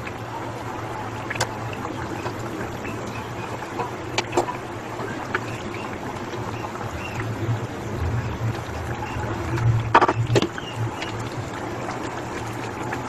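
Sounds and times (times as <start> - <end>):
broth bubbling: 0.0 - 13.0.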